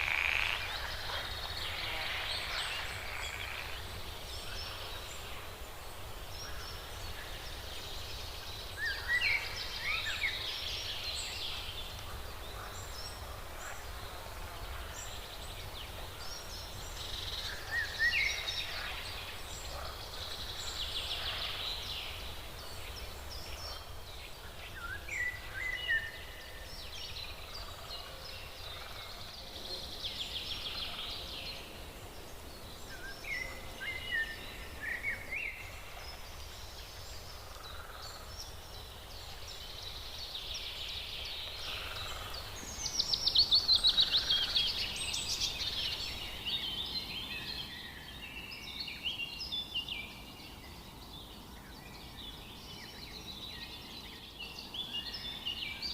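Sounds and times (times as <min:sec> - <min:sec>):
birds chirping and trilling: 0:00.0 - 0:55.9.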